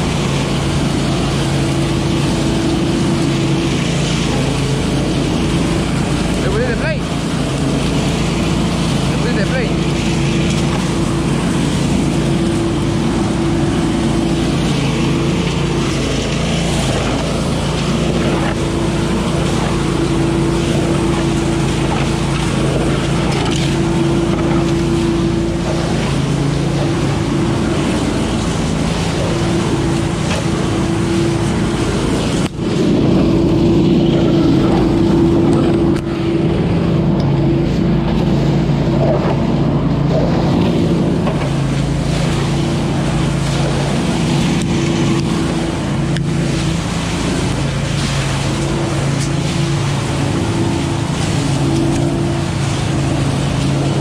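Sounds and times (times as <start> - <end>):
leaf vacuum engine and fan drone: 0.0 - 54.0.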